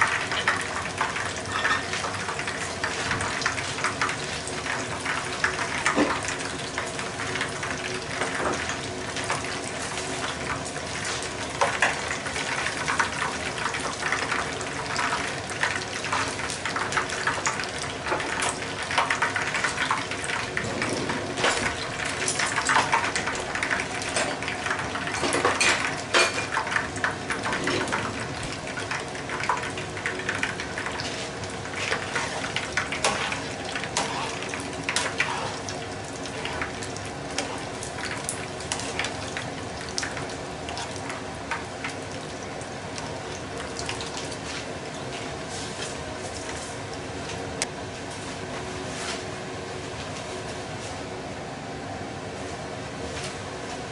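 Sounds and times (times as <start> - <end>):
food deep-frying in hot oil: 0.0 - 53.9.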